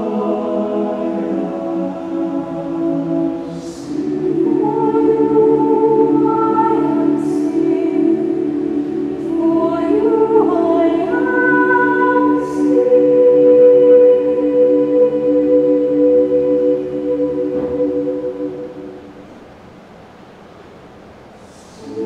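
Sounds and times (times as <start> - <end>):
choir singing sustained chords: 0.0 - 20.6, 21.2 - 22.0.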